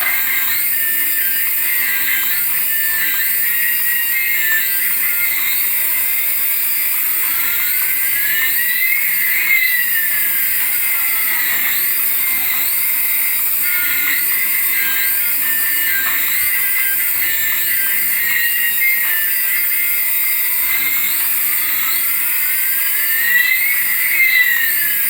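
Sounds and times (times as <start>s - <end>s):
toy electronic whine: 0.0s - 25.0s.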